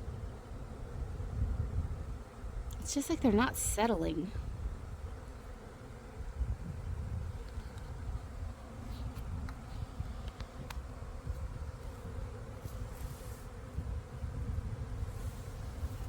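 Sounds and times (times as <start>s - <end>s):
bee swarm humming: 0.0s - 16.0s
wind rumble on microphone: 0.0s - 16.0s.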